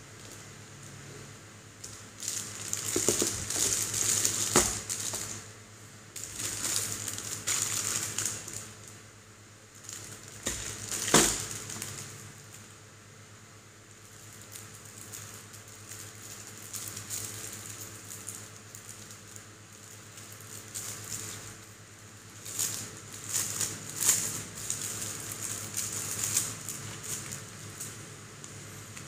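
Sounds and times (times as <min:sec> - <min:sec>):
plastic wrapping crinkling: 0:01.8 - 0:05.5, 0:06.1 - 0:09.0, 0:09.7 - 0:12.8, 0:13.9 - 0:29.0.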